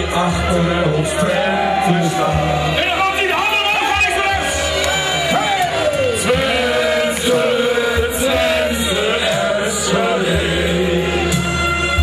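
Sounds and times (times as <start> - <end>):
crowd singing a chant: 0.0 - 2.8, 4.9 - 12.0
music over loudspeakers: 0.0 - 12.0.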